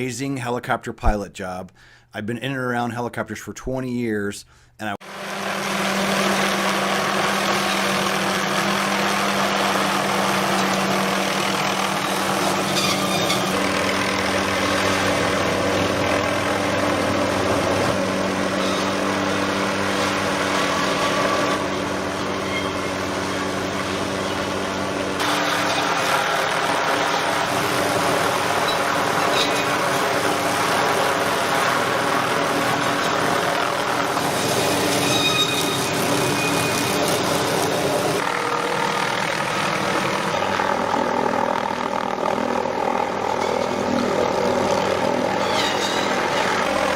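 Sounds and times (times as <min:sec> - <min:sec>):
powerful engine running: 0:05.0 - 0:46.9.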